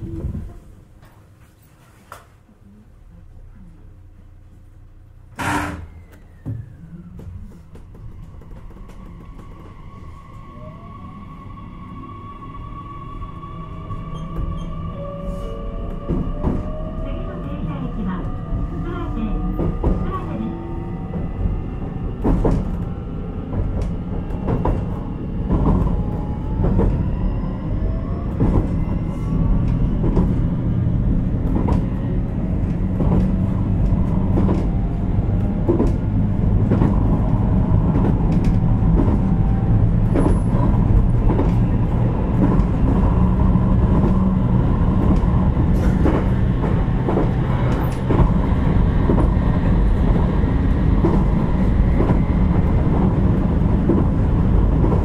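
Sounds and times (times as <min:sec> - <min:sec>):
train motor whine and rumble: 0:00.0 - 0:55.0.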